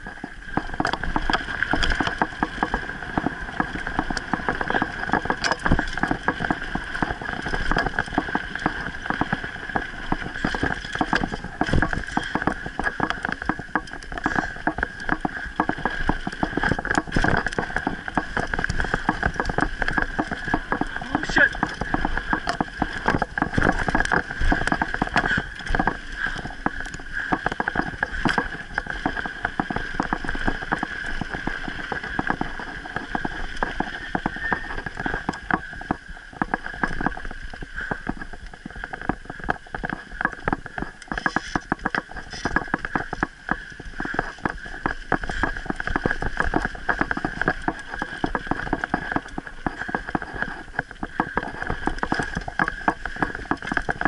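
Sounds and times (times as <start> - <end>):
bike rattling over rough ground: 0.0 - 54.0.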